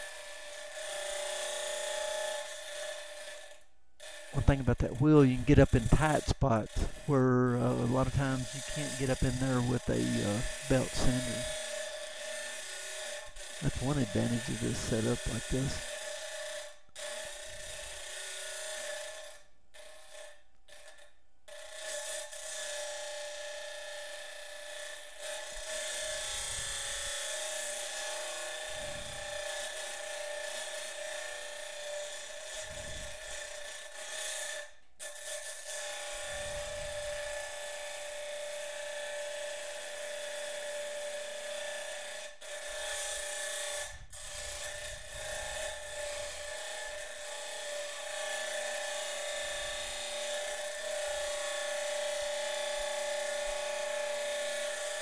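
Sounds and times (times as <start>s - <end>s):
grinding wheel on steel: 0.0s - 55.0s.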